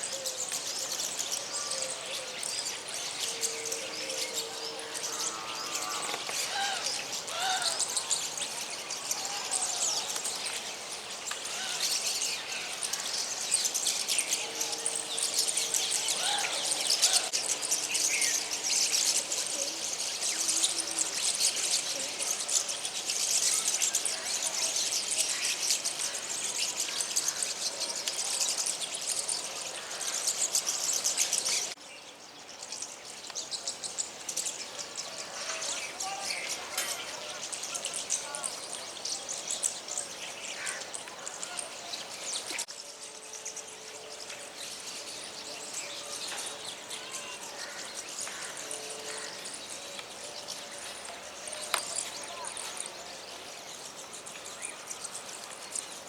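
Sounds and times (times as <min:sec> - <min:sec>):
flock of small birds chirping: 0:00.0 - 0:56.0.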